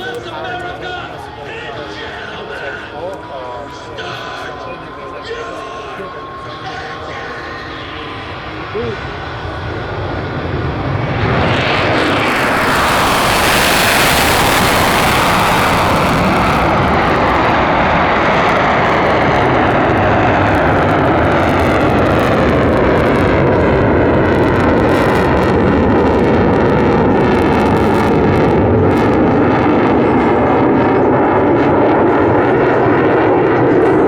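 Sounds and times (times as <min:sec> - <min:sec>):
jet engine rumble: 0:05.8 - 0:34.0.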